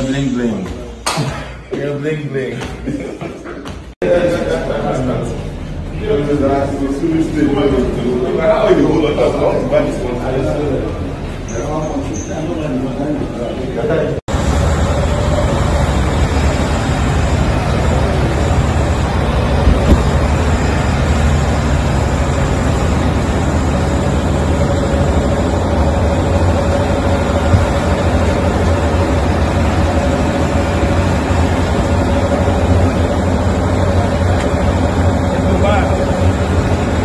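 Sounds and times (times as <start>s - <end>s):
vehicle engines rumbling: 4.0s - 37.0s.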